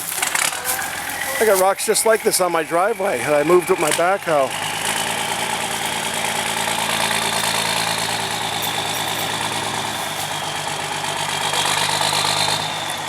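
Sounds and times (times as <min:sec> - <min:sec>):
tow truck engine idling: 0:00.0 - 0:13.0.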